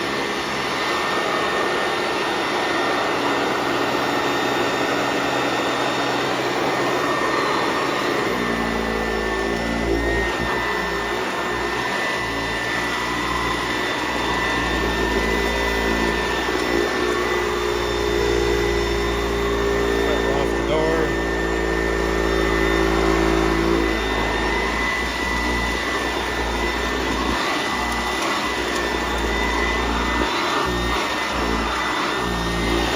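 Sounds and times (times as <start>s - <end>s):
vacuum cleaner motor running: 0.0s - 32.9s.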